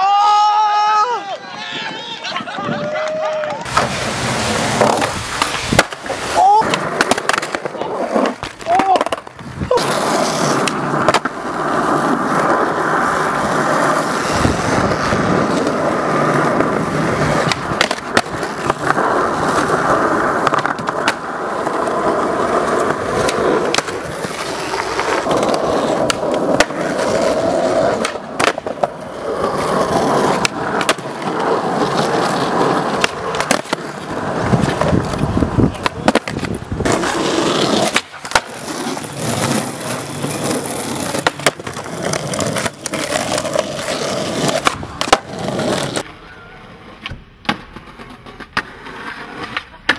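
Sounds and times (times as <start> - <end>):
skateboard wheels rolling on pavement: 0.0 - 49.9
skateboard clacks popping and landing: 3.4 - 11.4, 13.9 - 46.1, 47.0 - 49.9.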